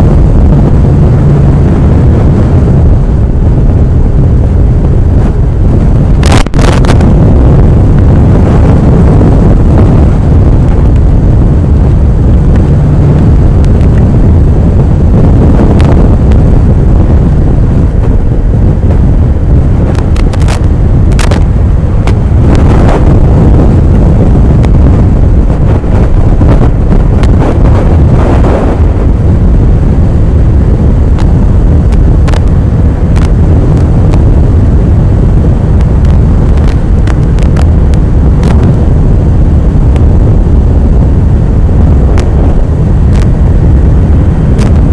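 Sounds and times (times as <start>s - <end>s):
gusts crackling on microphone: 0.0s - 44.9s
motorcycle engine rumble: 0.0s - 44.9s
wind buffeting microphone: 0.0s - 44.9s.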